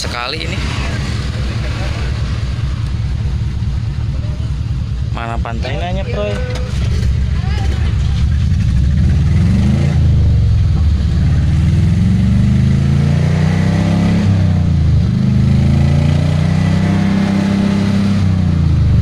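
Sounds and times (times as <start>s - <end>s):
engine accelerating through gears: 0.0s - 19.0s.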